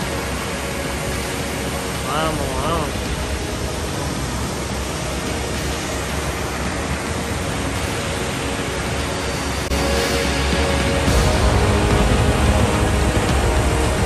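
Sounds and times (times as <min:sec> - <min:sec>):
waterfall crashing onto rocks: 0:00.0 - 0:14.0.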